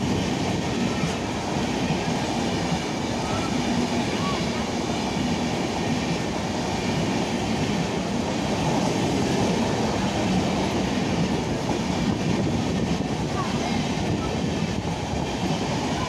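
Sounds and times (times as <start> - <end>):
train coaches running past: 0.0 - 16.0.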